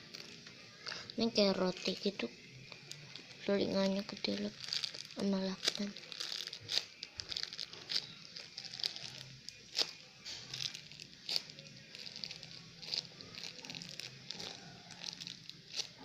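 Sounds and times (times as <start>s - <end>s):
tape-covered squishy crinkling: 0.0s - 16.0s.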